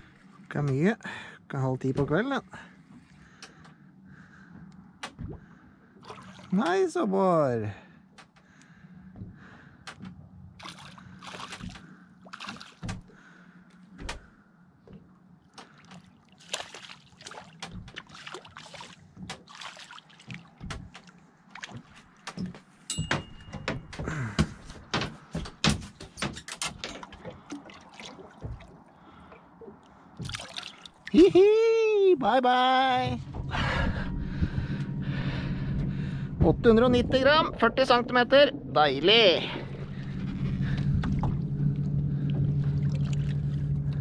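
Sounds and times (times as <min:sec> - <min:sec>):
water splashing beside boat: 0:00.0 - 0:31.4, 0:32.7 - 0:44.0.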